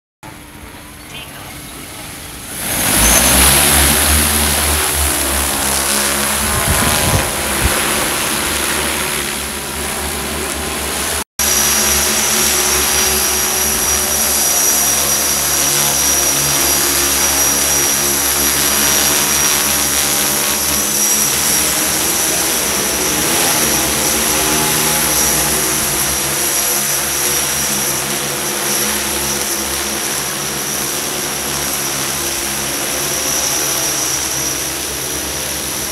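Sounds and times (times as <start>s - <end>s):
drone propellers humming: 0.2s - 35.9s.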